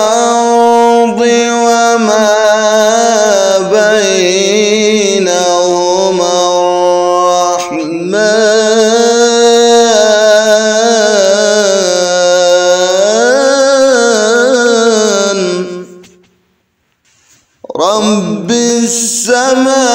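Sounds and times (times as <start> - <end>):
man chanting recitation: 0.0 - 16.2, 17.6 - 19.9.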